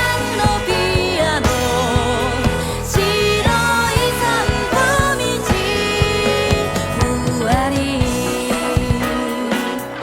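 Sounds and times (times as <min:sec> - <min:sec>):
pop song with singer and band: 0:00.0 - 0:10.0.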